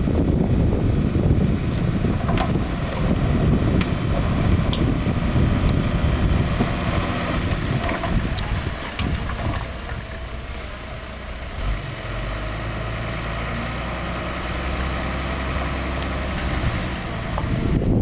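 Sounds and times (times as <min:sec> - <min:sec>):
heavy diesel engine humming: 0:00.0 - 0:18.0.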